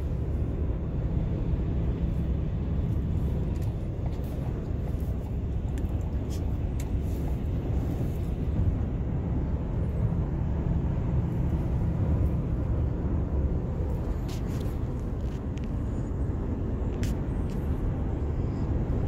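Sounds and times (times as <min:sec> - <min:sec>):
car cabin road rumble: 0:00.0 - 0:19.0.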